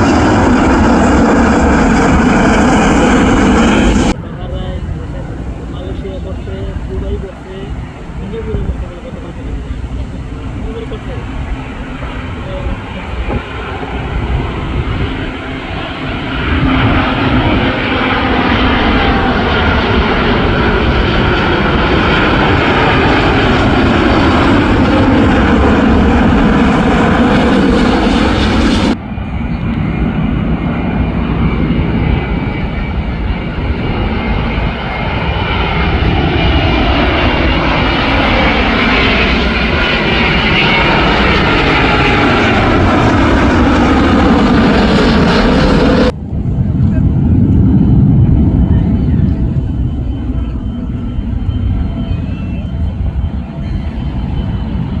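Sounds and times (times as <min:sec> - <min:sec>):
jet airliners passing overhead: 0:00.0 - 0:55.0.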